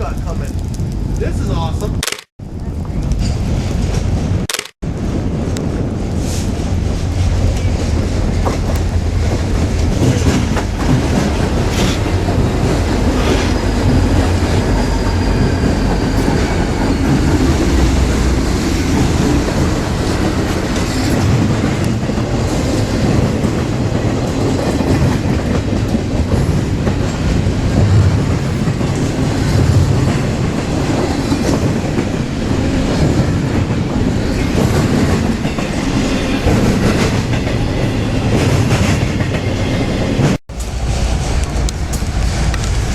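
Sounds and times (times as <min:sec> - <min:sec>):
train rumbling past: 0:00.0 - 0:42.9
wheels clacking over rail joints: 0:06.6 - 0:42.9.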